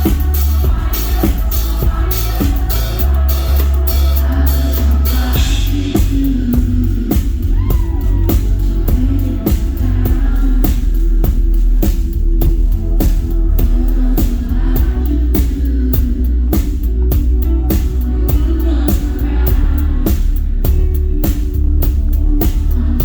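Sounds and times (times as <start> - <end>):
drum kit beat: 0.0 - 23.0
guitar: 0.0 - 23.0
heavy bass line: 0.0 - 23.0.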